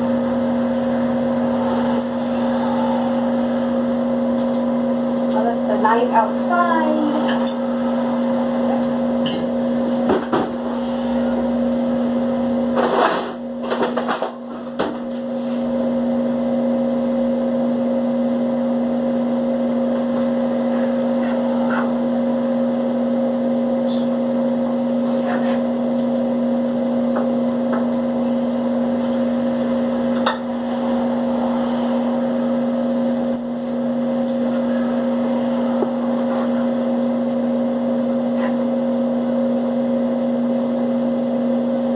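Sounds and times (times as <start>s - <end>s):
electrical appliance hum: 0.0s - 41.9s.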